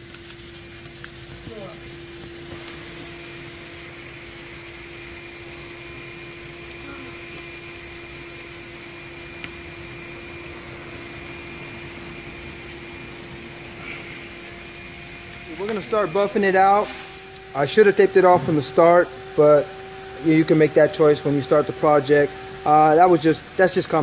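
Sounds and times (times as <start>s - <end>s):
machine hum with pitched tone: 0.0s - 24.0s.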